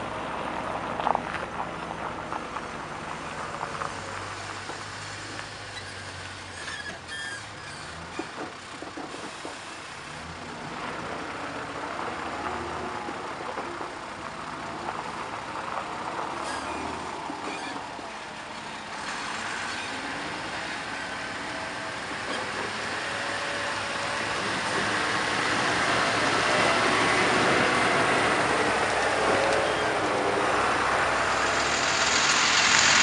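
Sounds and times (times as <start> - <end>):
diesel truck engine on gravel: 0.0 - 33.0.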